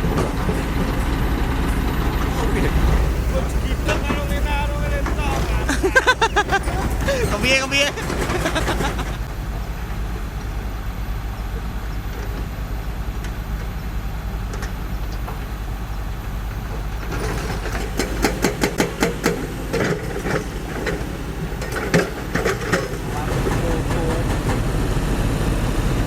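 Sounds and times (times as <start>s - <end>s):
diesel engine droning: 0.0s - 26.0s.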